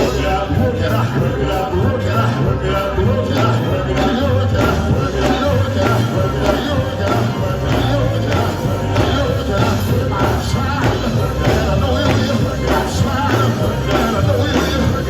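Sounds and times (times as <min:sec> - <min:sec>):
gospel band playing: 0:00.0 - 0:15.0
person singing: 0:00.0 - 0:15.0.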